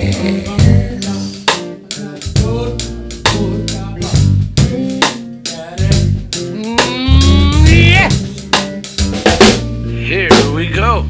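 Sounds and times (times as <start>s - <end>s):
drum kit groove: 0.0s - 11.0s
electric keyboard chords: 0.0s - 11.0s.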